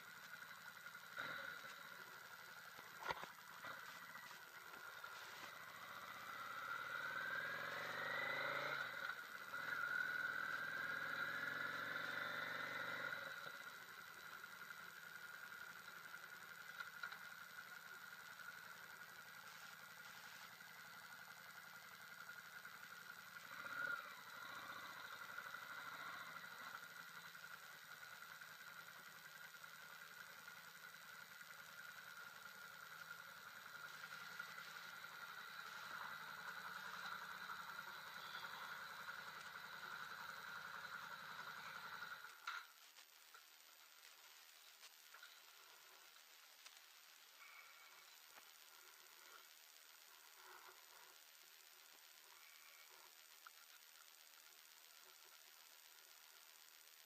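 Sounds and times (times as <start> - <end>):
motorcycle engine accelerating: 0.0 - 49.5.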